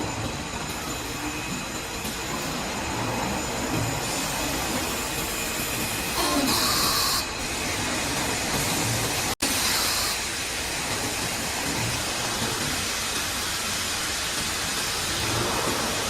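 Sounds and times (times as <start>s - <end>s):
factory machinery hiss and rumble: 0.0s - 16.0s.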